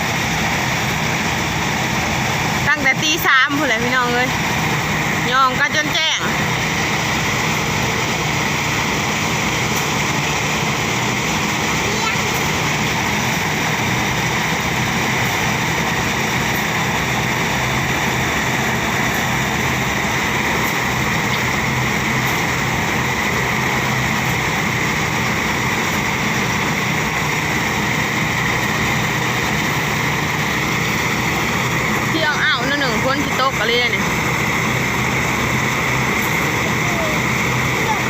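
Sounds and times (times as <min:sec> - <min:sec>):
threshing machine running: 0:00.0 - 0:38.0.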